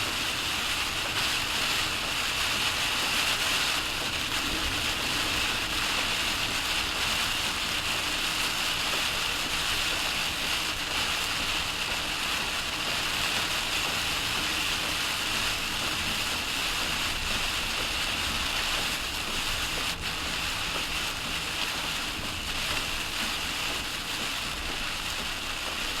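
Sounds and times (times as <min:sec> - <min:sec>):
heavy rain hiss: 0:00.0 - 0:26.0.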